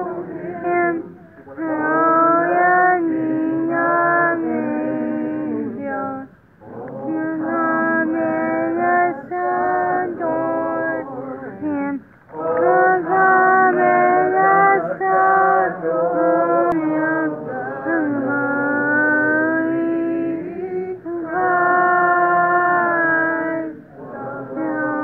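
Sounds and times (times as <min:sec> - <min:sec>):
voices singing a carol: 0:00.0 - 0:25.0.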